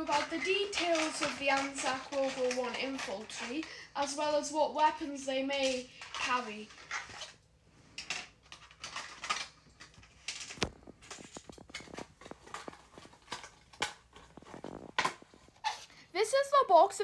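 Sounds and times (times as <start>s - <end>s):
plastic toys tapping and rustling: 0.0s - 15.9s.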